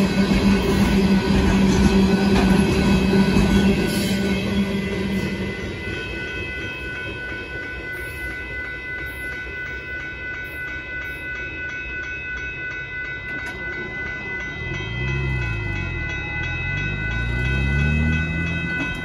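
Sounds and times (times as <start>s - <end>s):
crossing warning bell ringing: 0.0s - 19.0s
train rumbling: 0.0s - 19.0s.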